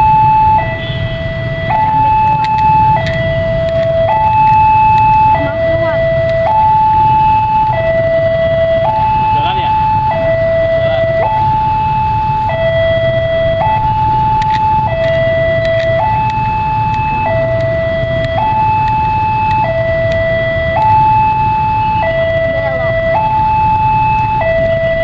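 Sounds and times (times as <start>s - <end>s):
level crossing two-tone alarm: 0.0s - 25.0s
low traffic rumble: 0.0s - 25.0s.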